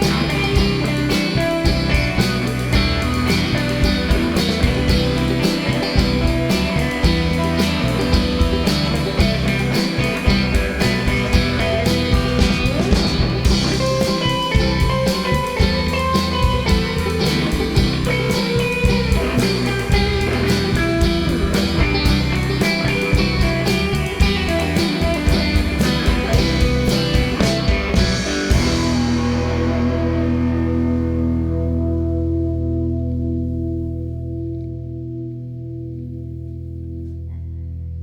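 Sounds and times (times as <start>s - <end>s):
steady drum beat: 0.0s - 30.8s
guitar: 0.0s - 38.0s.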